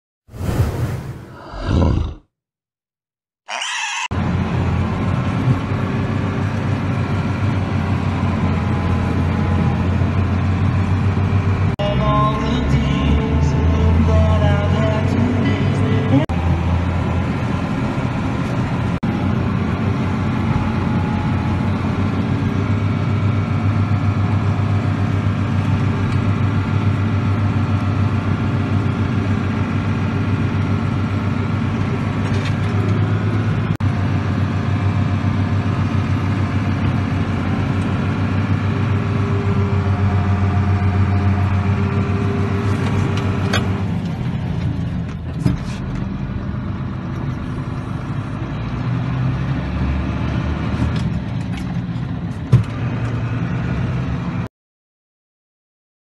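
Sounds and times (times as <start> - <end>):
tractor engine running: 4.2 - 54.4.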